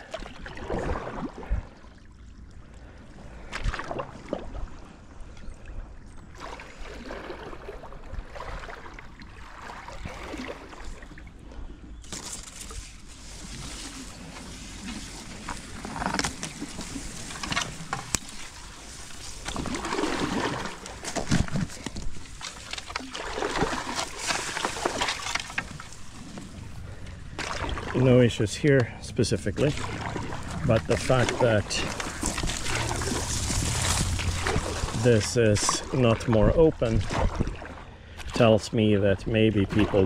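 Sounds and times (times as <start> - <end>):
paddle splashing in water: 0.0 - 2.0, 3.3 - 5.0, 6.4 - 11.5, 12.1 - 28.3, 29.4 - 38.5, 39.6 - 40.0.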